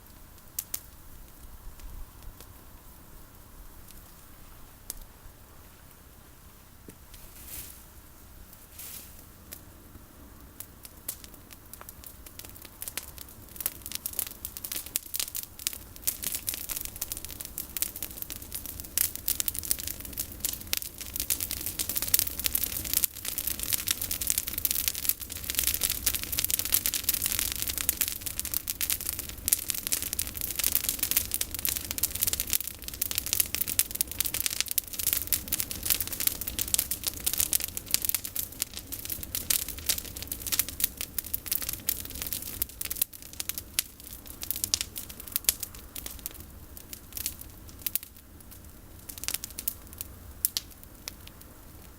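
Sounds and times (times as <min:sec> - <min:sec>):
bonfire crackling: 0:00.0 - 0:51.9.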